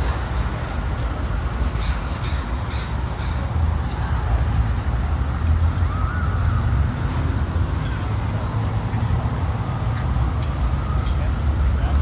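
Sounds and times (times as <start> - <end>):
low rumble of urban background: 0.0 - 12.0.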